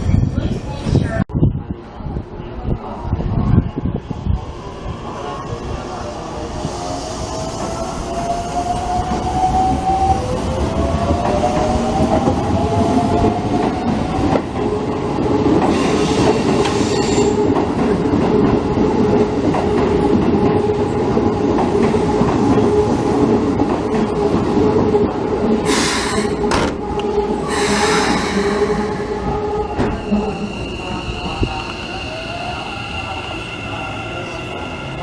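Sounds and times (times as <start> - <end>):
train wheels rumbling: 6.5 - 35.0.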